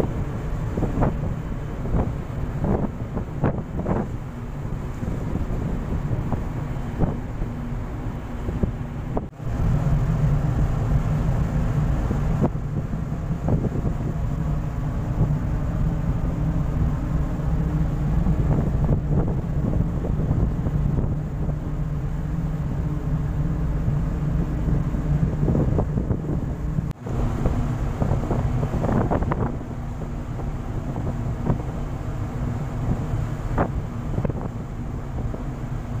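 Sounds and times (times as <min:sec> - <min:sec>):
ship engine hum: 0:00.0 - 0:36.0
wind buffeting microphone: 0:00.0 - 0:36.0.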